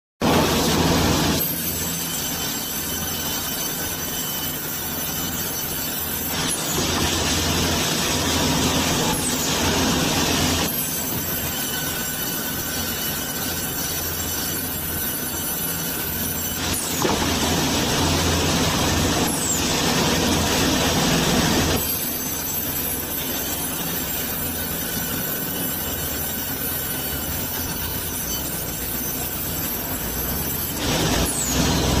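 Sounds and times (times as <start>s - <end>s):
saw blade hiss and whine: 0.2s - 32.0s
sawmill machine hum: 0.2s - 32.0s.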